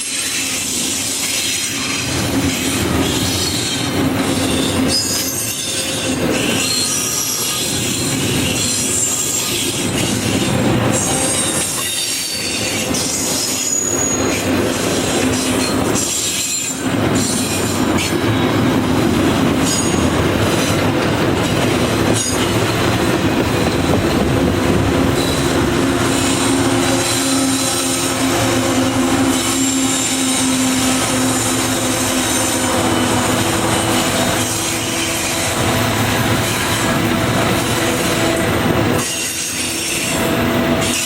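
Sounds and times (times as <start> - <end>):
train wheels squealing: 0.0 - 18.7, 19.4 - 20.8, 21.4 - 24.2, 25.1 - 41.0
train rumbling past: 0.0 - 41.0.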